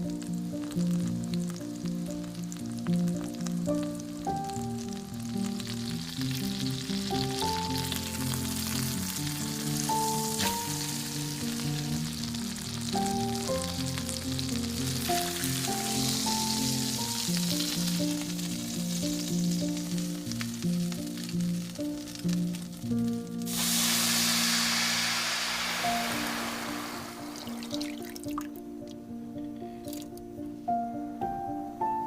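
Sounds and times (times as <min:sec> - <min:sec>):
plucked melody background music: 0:00.0 - 0:23.8, 0:27.2 - 0:32.0
food sizzling in hot oil: 0:00.0 - 0:28.6.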